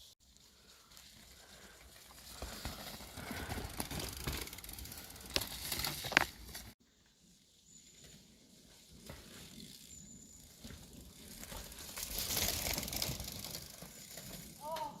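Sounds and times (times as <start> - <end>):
bicycle tyres crunching: 0.0 - 6.8, 7.7 - 15.0
bike rattling: 0.8 - 6.8, 8.9 - 15.0.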